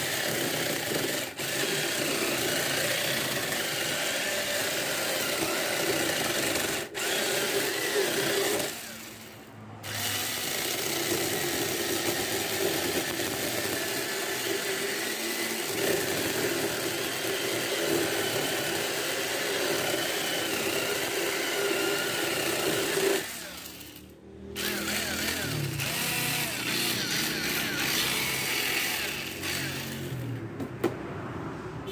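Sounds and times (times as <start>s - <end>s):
electric chainsaw running: 0.0s - 30.4s.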